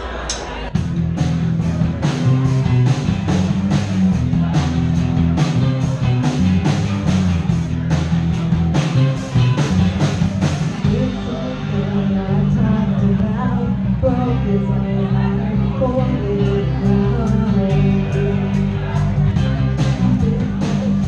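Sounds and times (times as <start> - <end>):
drum kit steady beat: 0.3 - 12.6, 16.4 - 21.0
live rock band playing: 0.7 - 21.0.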